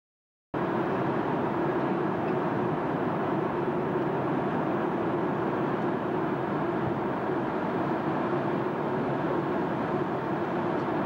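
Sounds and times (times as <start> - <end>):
jet airliner cabin noise: 0.6 - 11.0.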